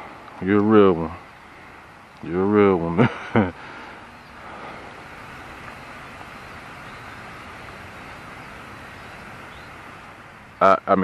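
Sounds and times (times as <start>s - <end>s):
outdoor rushing hiss: 0.0s - 11.0s.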